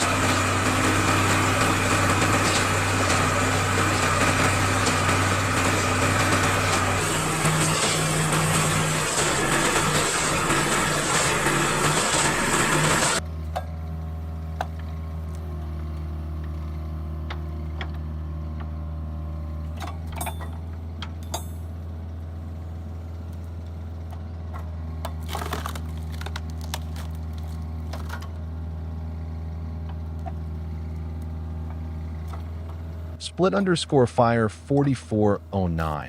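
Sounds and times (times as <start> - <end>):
engine idling hum: 0.0 - 36.0.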